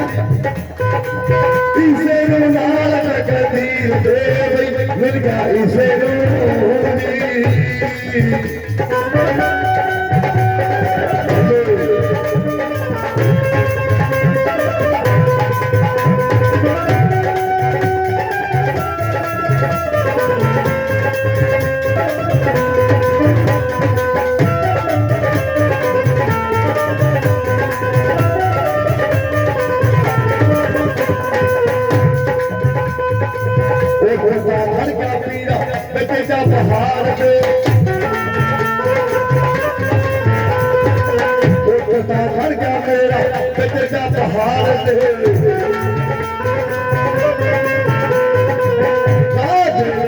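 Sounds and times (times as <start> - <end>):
steady hand drum beat: 0.0 - 50.0.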